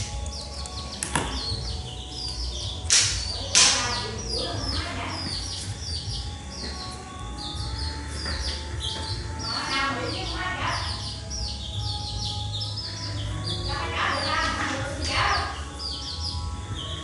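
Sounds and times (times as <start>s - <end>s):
duckling peeping: 0.0s - 17.0s.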